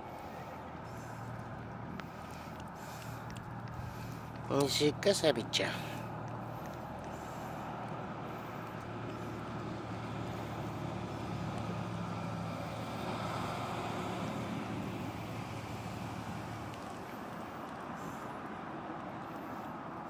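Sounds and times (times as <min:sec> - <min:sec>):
distant motor humming: 0:00.0 - 0:18.3
outdoor background noise: 0:00.0 - 0:20.0.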